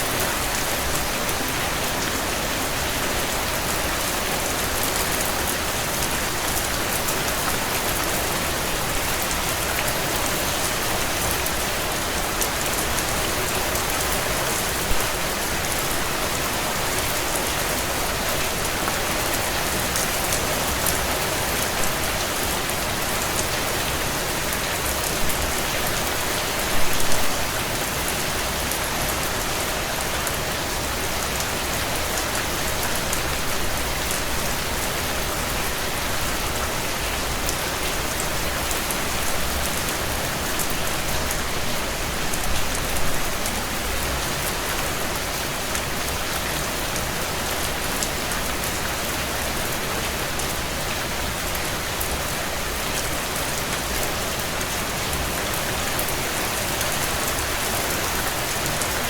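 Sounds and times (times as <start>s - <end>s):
heavy rain on a window: 0.0s - 59.0s.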